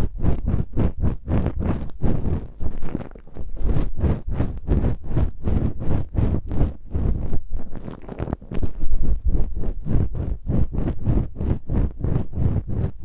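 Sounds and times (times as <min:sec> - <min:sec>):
ear-cleaning tool scraping microphone: 0:00.0 - 0:13.0.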